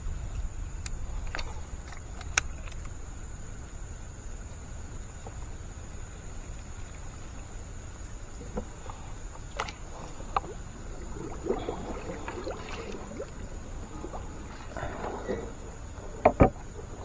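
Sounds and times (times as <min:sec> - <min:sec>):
water moving around wooden boat: 0:00.0 - 0:17.0.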